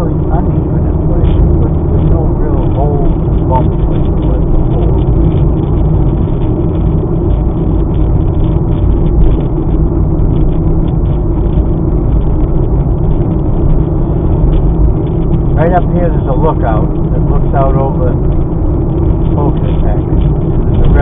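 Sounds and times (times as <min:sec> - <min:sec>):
car road noise rumble: 0:00.0 - 0:21.0.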